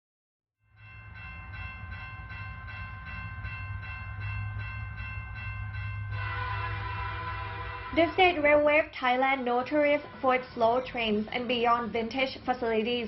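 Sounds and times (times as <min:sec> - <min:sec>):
steady high-pitched tone: 0:00.8 - 0:13.0
train rumbling on rails: 0:00.8 - 0:13.0.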